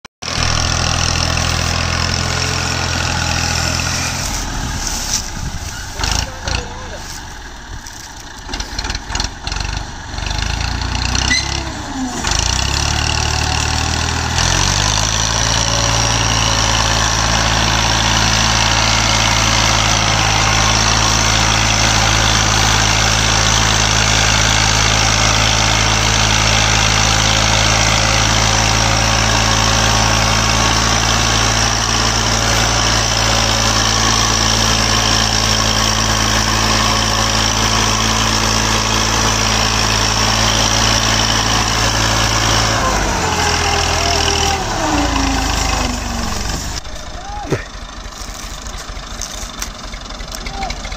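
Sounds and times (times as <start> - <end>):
tractor diesel engine under load: 0.2 - 50.9.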